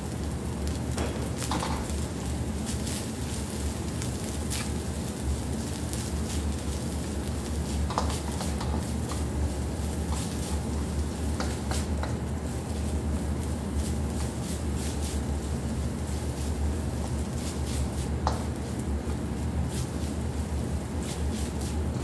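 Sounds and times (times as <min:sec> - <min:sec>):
meat sizzling in a wok: 0:00.0 - 0:22.0.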